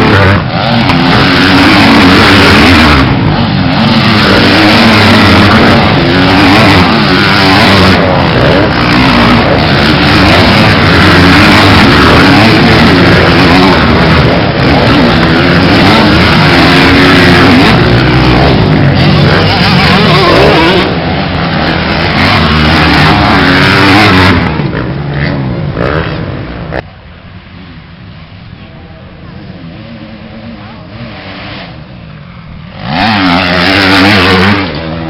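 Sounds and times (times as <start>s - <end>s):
motocross engines revving: 0.0s - 35.0s.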